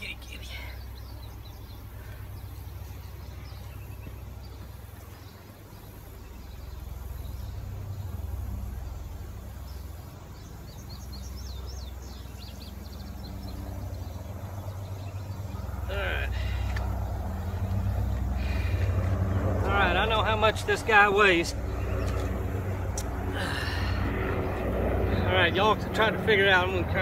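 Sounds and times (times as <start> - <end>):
bird chirping: 0.0 - 23.0
low uneven rumble: 0.0 - 27.0.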